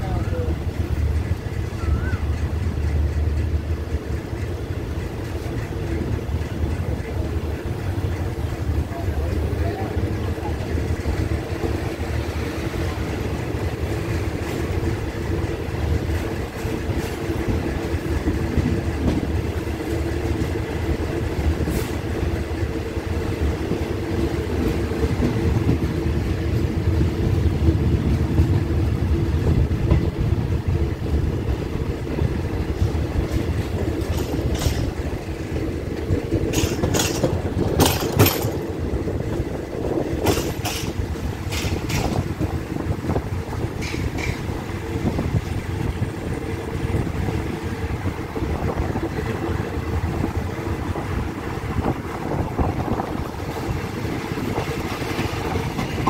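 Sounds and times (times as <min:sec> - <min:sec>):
rumble of wheels on rail: 0:00.0 - 0:56.0.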